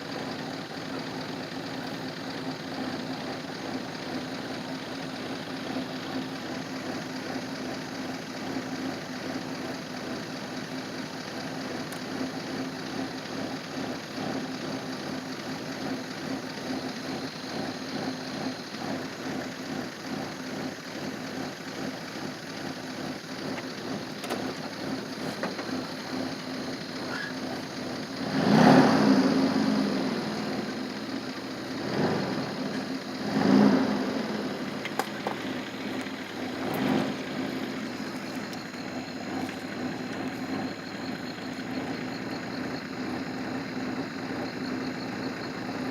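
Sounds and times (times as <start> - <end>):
vehicle engine idling: 0.0 - 45.9.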